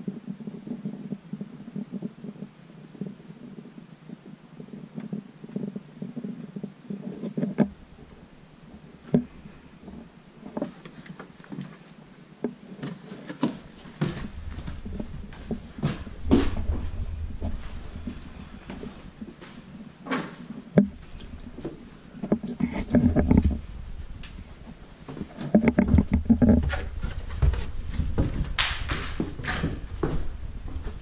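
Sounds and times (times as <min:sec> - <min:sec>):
knocks and rustles of movement: 0:00.0 - 0:31.0.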